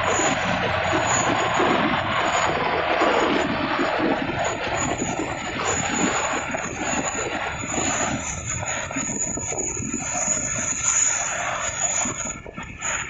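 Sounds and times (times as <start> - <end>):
distant jet engines roaring: 0.0 - 13.0
thin high whine: 0.0 - 13.0.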